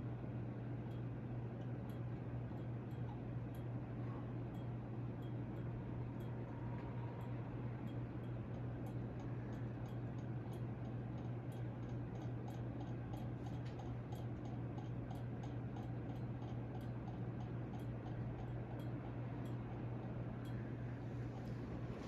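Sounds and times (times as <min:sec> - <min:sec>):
ceiling fan motor hum: 0:00.0 - 0:22.0.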